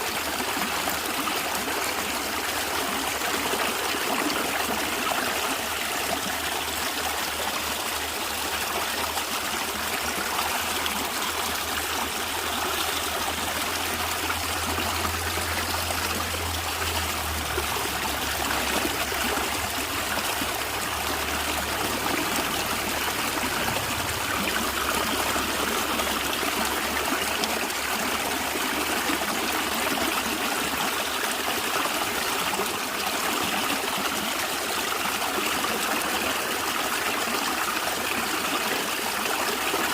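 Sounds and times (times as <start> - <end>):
stream flowing and gurgling: 0.0 - 39.9.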